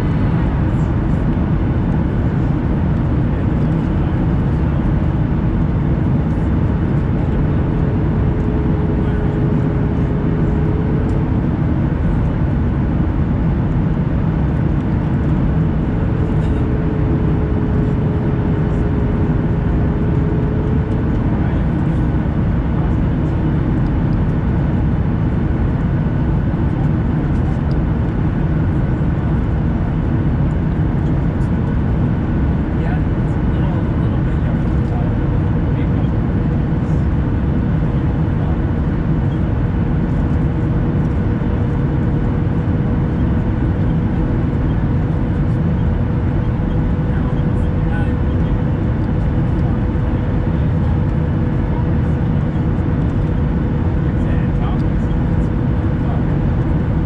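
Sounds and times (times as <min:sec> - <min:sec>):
jet engine cabin roar: 0:00.0 - 0:57.0.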